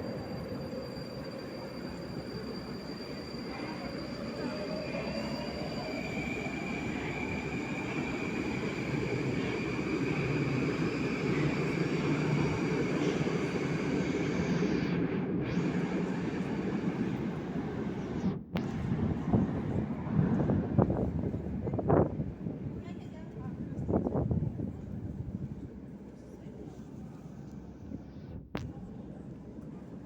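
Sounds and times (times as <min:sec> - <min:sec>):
rumble of train wheels: 0:00.0 - 0:30.0.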